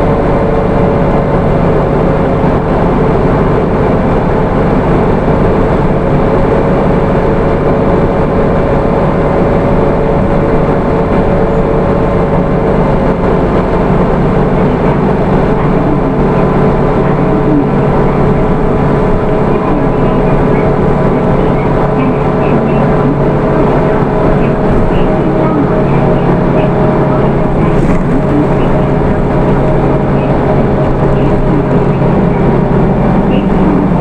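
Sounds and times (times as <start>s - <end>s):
bus engine driving: 0.0s - 34.0s
road noise: 0.0s - 34.0s
steady whine: 0.0s - 34.0s.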